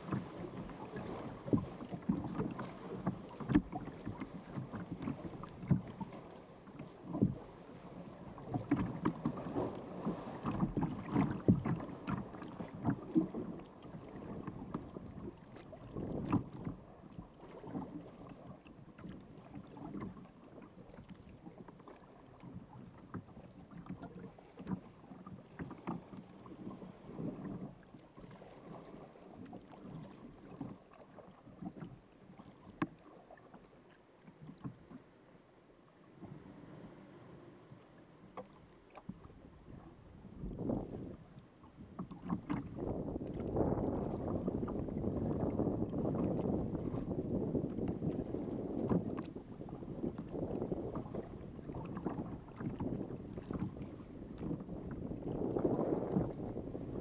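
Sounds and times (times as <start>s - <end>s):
water slapping: 0.0s - 35.1s, 36.1s - 57.0s
water lapping against kayak hull: 0.0s - 57.0s.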